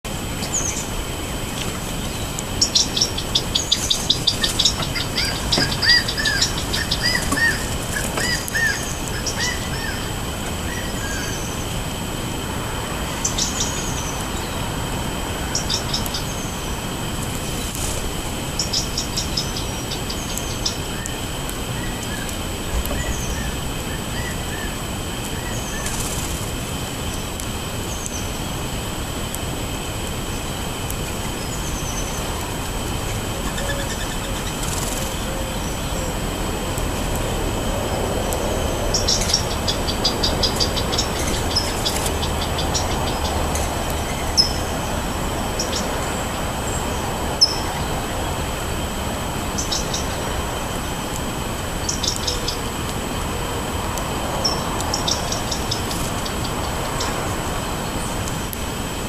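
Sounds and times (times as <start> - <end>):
steady background rush: 0.1 - 59.0
songbirds chirping: 0.2 - 58.9.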